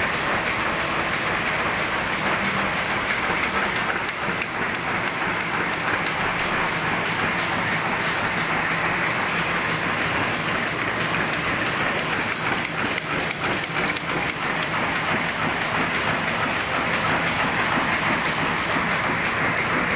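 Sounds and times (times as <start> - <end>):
engine running with rhythmic clatter: 0.0 - 19.9.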